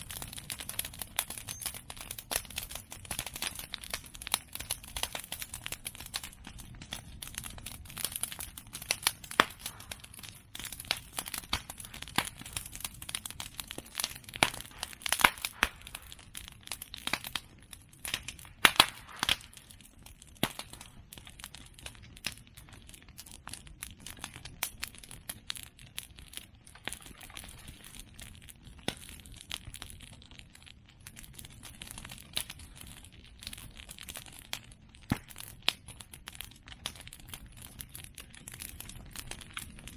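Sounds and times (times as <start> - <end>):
fire crackling and popping: 0.0 - 39.9
sharp snaps of burning wood: 0.0 - 39.9.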